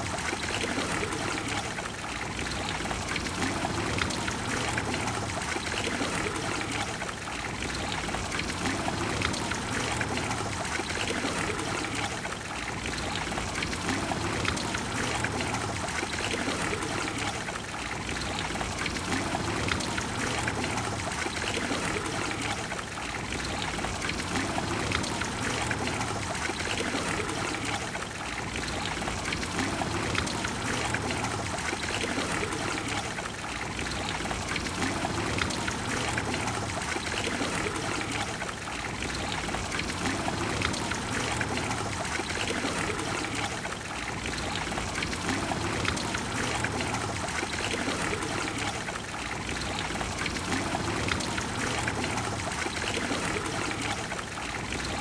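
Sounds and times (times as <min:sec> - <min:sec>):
fountain water splashing into basin: 0:00.0 - 0:55.0.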